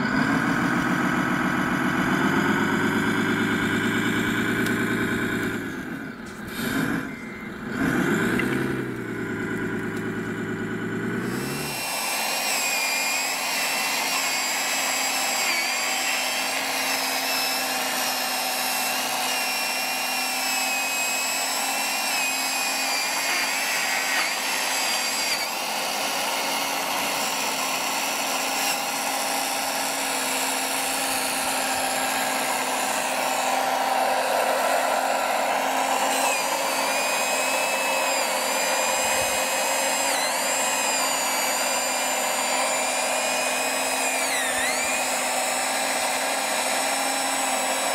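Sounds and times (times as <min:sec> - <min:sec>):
electric saw motor whine: 0:00.0 - 0:47.9.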